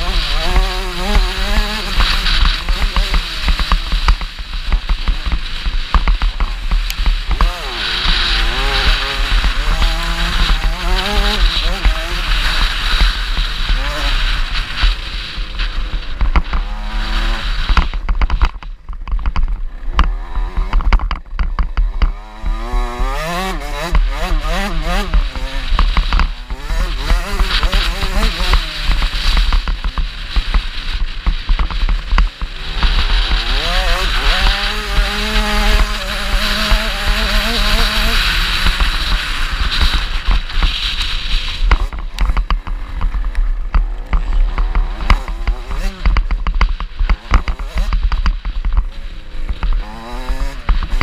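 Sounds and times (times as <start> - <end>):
motocross bike engine revving: 0.0 - 51.0.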